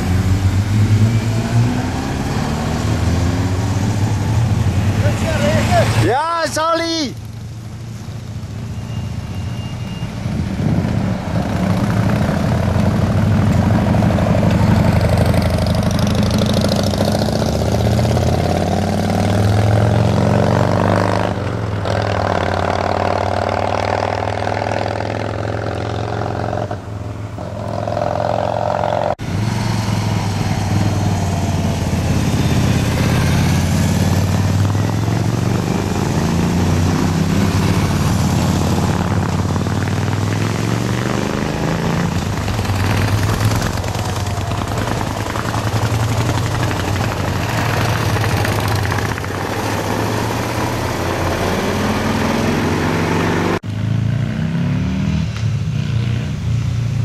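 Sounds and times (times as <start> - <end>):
motorcycle engines revving past: 0.0 - 6.2, 7.2 - 57.0.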